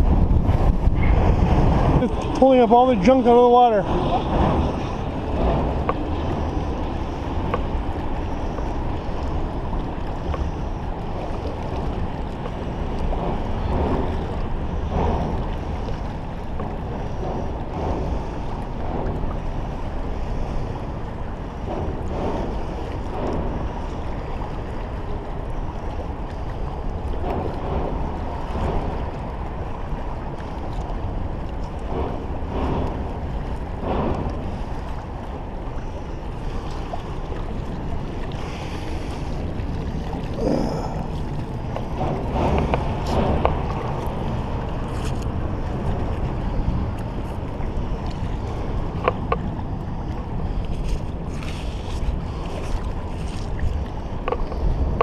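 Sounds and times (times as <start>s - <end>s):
river water: 0.0s - 55.0s
wind rumble on microphone: 0.0s - 55.0s.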